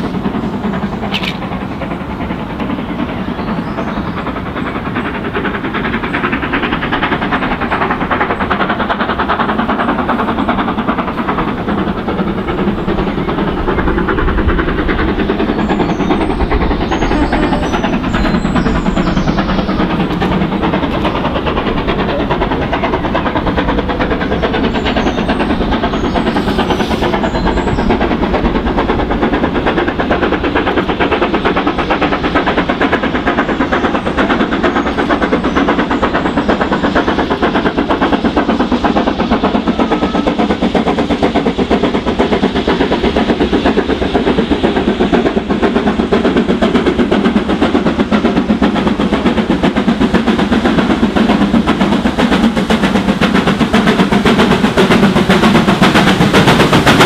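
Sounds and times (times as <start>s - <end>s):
steam locomotive exhaust beat: 0.0s - 57.0s.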